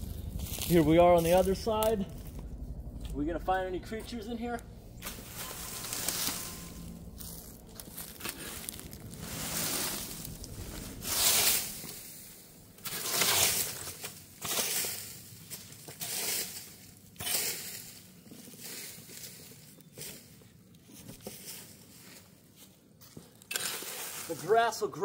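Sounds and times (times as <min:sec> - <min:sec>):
rake scraping dry leaves: 0:00.0 - 0:02.4, 0:05.0 - 0:25.0.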